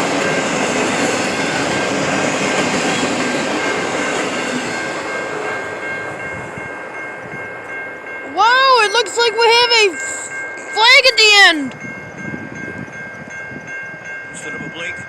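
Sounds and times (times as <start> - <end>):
train cars rolling on rails: 0.0 - 15.0.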